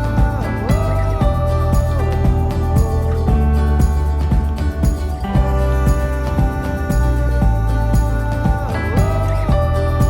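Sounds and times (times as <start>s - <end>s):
jingling bell-like percussion: 0.0s - 10.0s
music with steady beat: 0.0s - 10.0s.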